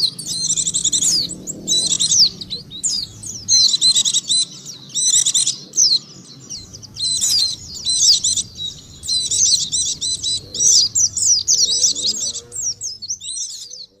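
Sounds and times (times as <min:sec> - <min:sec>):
bird high twittering song: 0:00.0 - 0:14.0.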